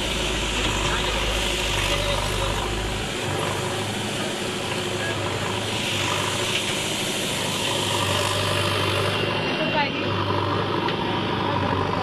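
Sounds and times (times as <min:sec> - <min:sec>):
diesel engine of heavy machinery: 0:00.0 - 0:12.0.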